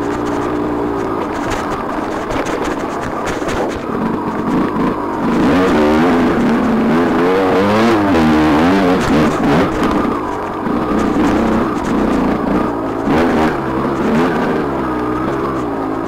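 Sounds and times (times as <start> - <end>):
dirt bike engine revving: 0.0 - 16.0
wind and tyre noise: 0.0 - 16.0.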